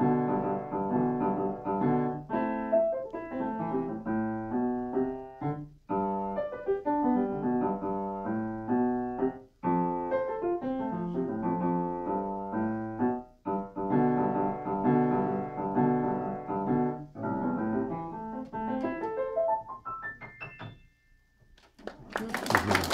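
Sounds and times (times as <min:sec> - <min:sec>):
solo piano playing: 0:00.0 - 0:21.4.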